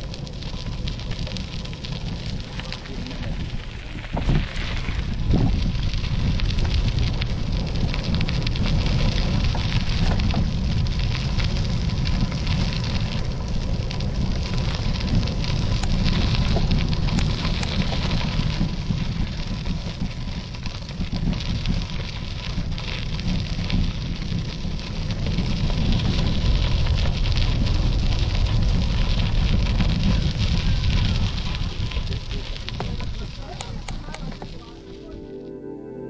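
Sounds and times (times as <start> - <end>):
wind buffeting microphone: 0.0 - 34.8.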